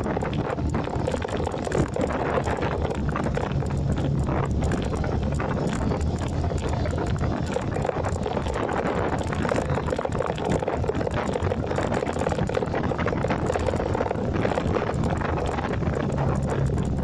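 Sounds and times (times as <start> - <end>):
motorcycle engine low hum: 0.0 - 17.0
wind buffeting microphone: 0.0 - 17.0.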